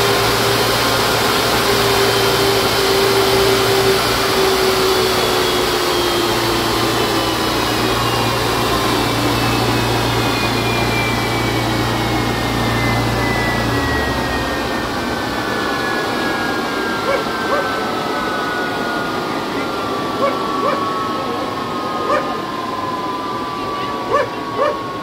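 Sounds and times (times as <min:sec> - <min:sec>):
jet engine whine: 0:00.0 - 0:25.0
steady low hum: 0:00.0 - 0:25.0.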